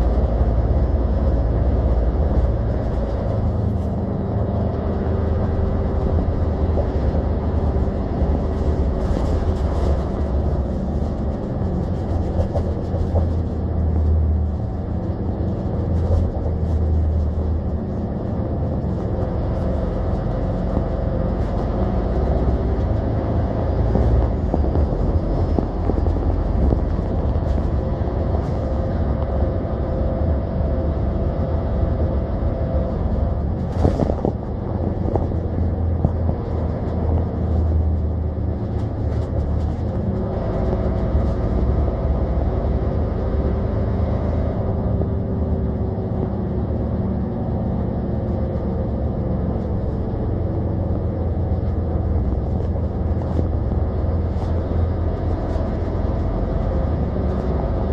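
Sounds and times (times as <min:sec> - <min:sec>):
bus engine and road rumble: 0:00.0 - 0:57.9.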